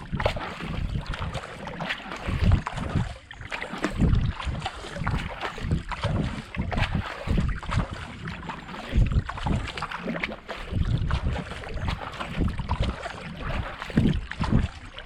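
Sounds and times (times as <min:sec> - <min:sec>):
paddle blades splashing in water: 0:00.0 - 0:15.0
wind on microphone: 0:00.0 - 0:15.0.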